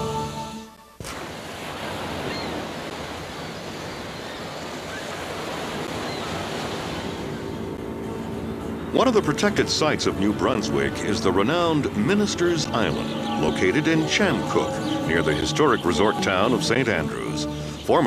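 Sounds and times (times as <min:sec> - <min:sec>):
sea surf rushing: 0:01.0 - 0:18.0
wind: 0:01.0 - 0:18.0.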